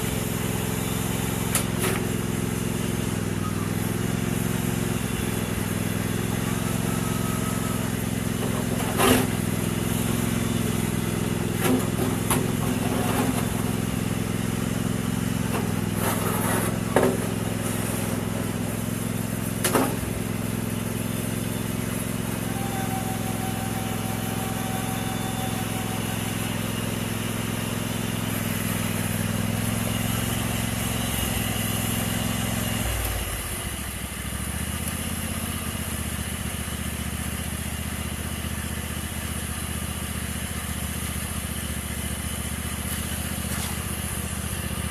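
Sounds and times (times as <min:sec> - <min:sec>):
riding lawn mower engine: 0:00.0 - 0:44.9.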